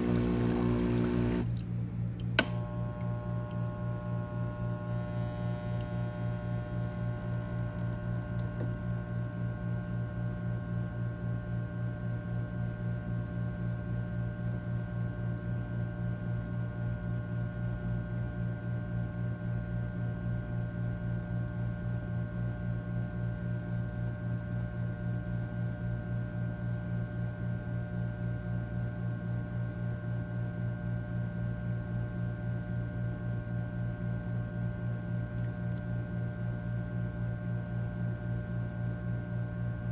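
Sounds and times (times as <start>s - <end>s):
espresso machine buzzing hum: 0.0s - 39.9s.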